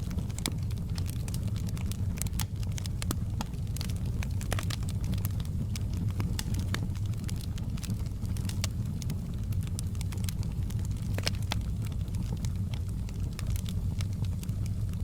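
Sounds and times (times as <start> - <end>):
low rumble of flame: 0.0 - 15.0
wood fire crackling: 0.0 - 15.0.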